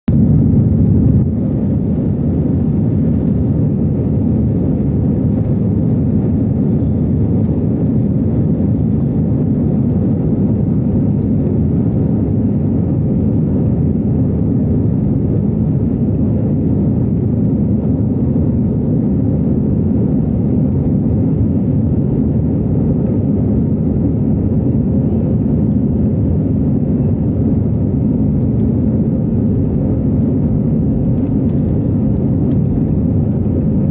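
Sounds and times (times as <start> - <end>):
jet engines rumbling: 0.1 - 33.9.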